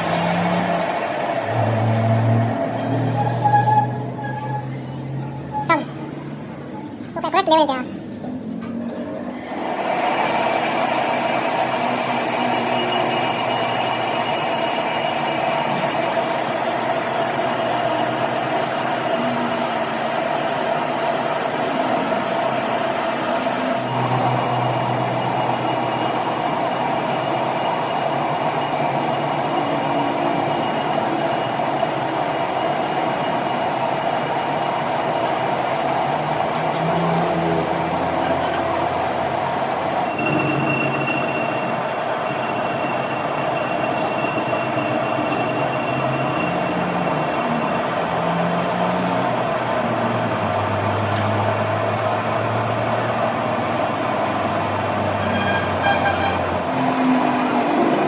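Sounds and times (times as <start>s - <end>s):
machine droning: 9.3s - 58.0s.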